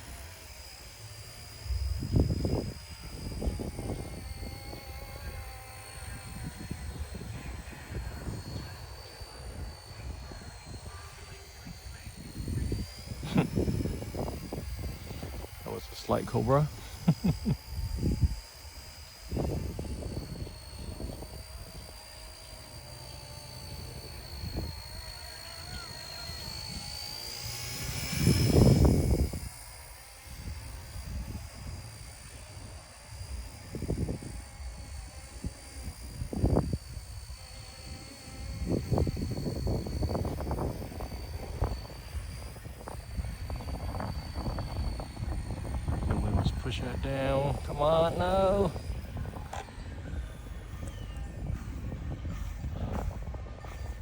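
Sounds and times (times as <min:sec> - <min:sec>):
rc helicopter rotor whine: 0:00.0 - 0:54.0
wind rumble on microphone: 0:01.5 - 0:54.0.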